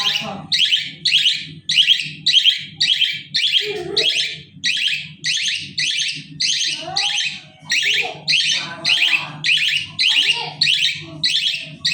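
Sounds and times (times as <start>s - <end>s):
budgerigars chirping: 0.0s - 11.9s.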